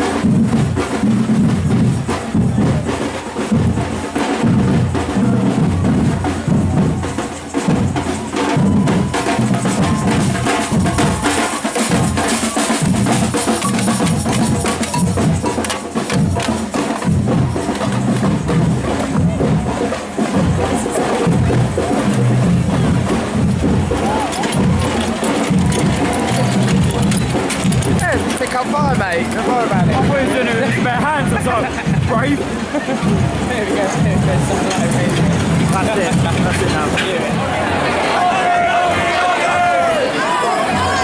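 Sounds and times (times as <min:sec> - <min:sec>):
bass drum marching beat: 0:00.0 - 0:37.8.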